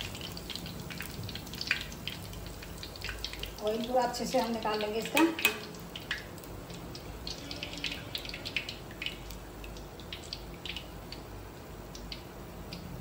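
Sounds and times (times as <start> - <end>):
hot oil dripping and crackling: 0.0 - 13.0.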